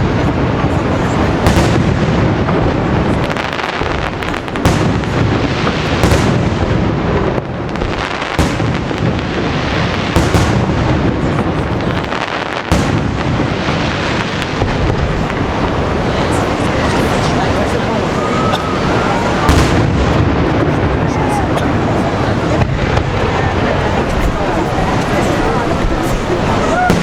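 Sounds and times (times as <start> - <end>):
fireworks booming and crackling: 0.0 - 27.0
sharp firework bangs: 0.0 - 27.0.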